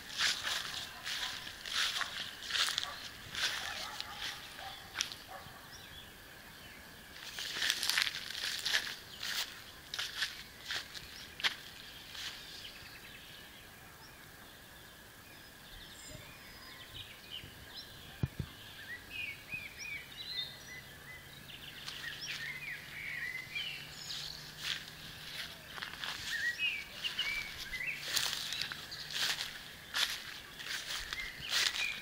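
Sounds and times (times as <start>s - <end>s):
faint background noise: 0.0s - 32.0s
small birds chirping: 0.0s - 32.0s.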